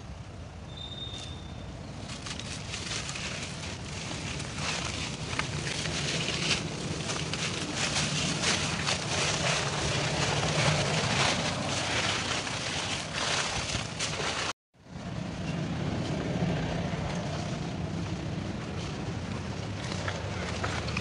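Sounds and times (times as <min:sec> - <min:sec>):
steady low hum: 0:01.6 - 0:21.0
footsteps on dry leaves: 0:01.9 - 0:14.6, 0:15.9 - 0:21.0.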